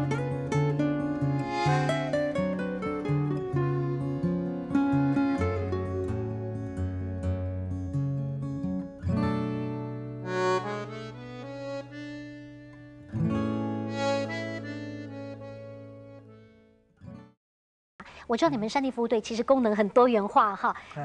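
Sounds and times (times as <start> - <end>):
instrumental background music: 0.0 - 17.3.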